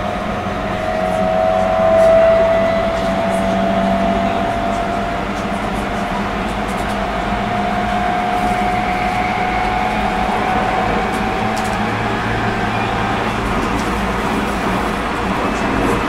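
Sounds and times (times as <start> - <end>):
train car hum: 0.0 - 16.0
train motor whine: 0.0 - 16.0.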